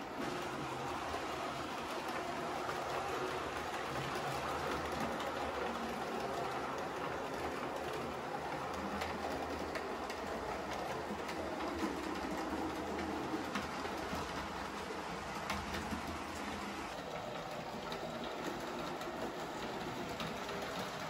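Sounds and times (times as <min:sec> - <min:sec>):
model train motor hum: 0:00.0 - 0:21.0.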